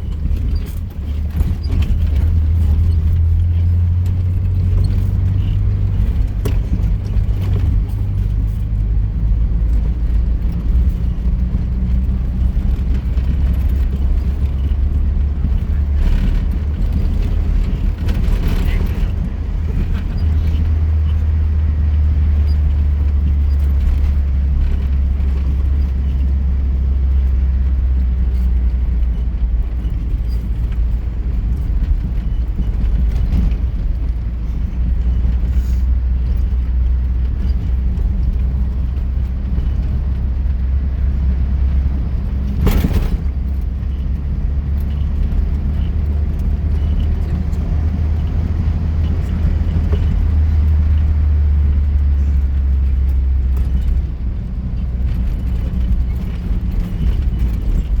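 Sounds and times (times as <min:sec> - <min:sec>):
vehicle engine and tyres rumbling: 0:00.0 - 0:58.0.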